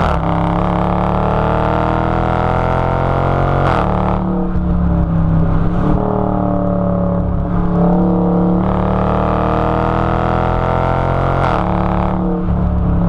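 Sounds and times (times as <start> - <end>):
car engine revving while driving: 0.0 - 13.0.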